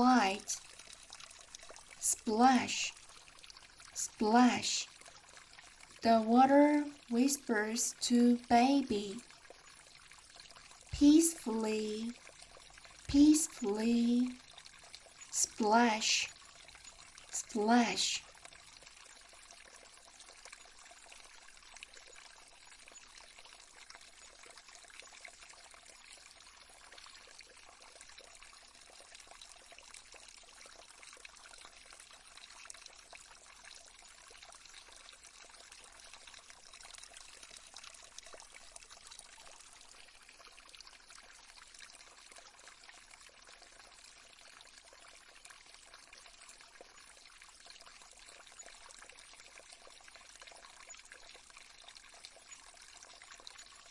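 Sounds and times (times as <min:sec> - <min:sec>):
stream trickling: 0:00.0 - 0:53.9.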